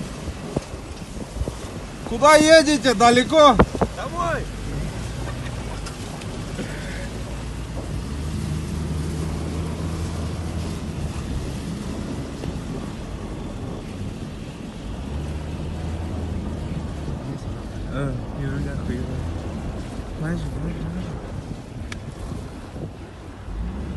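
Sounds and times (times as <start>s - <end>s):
car engine hum: 0.0s - 23.9s
wind rushing: 0.0s - 23.9s.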